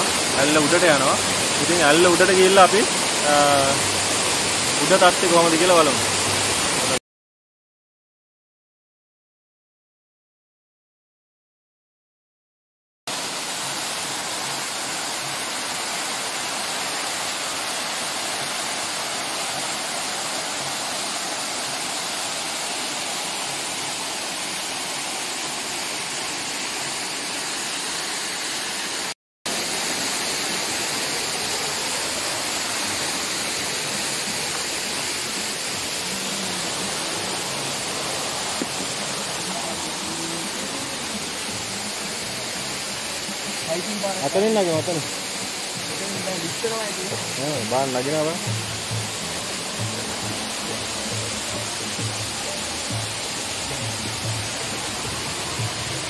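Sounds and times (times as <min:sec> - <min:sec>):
waterfall rushing onto rock: 0:00.0 - 0:07.0, 0:13.1 - 0:56.0.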